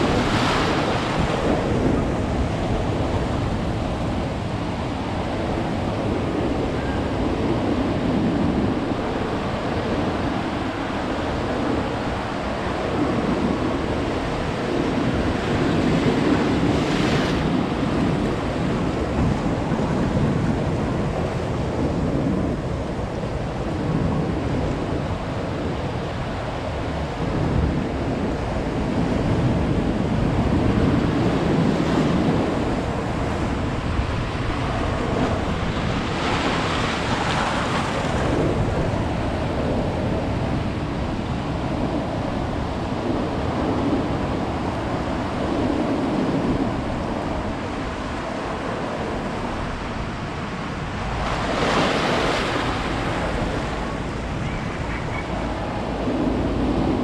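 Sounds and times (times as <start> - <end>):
waves breaking on a beach: 0.0 - 57.0
wind rumble on microphone: 0.0 - 57.0.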